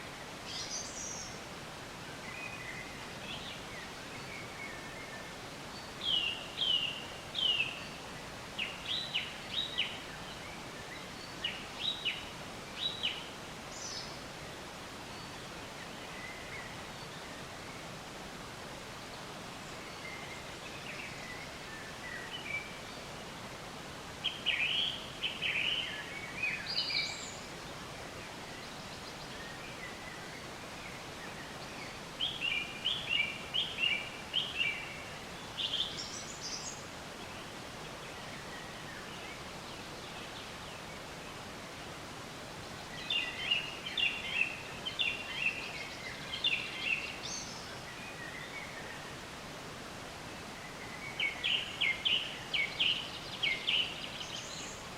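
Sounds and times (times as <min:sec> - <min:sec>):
steady outdoor hiss: 0:00.0 - 0:54.9
songbird chirping and warbling: 0:02.0 - 0:18.0, 0:24.2 - 0:41.4, 0:42.6 - 0:49.4, 0:50.6 - 0:54.9.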